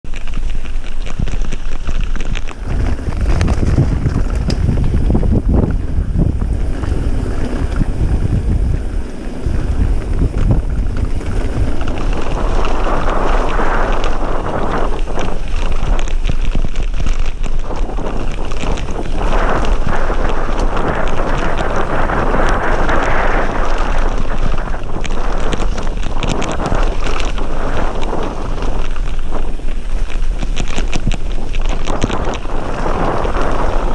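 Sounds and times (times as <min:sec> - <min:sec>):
bike rattles and clatter: 0:00.0 - 0:33.9
tyres on loose gravel: 0:00.0 - 0:33.9
wind buffeting microphone: 0:00.0 - 0:33.9.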